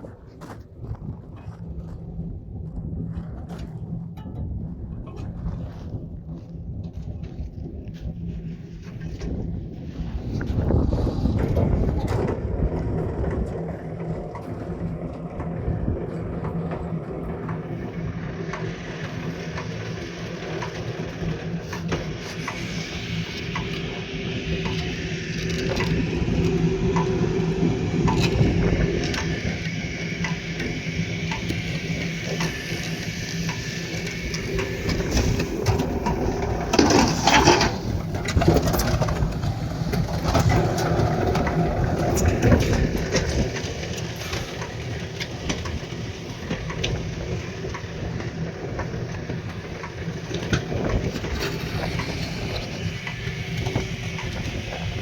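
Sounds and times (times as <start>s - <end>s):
motor running steadily: 1.0s - 55.0s.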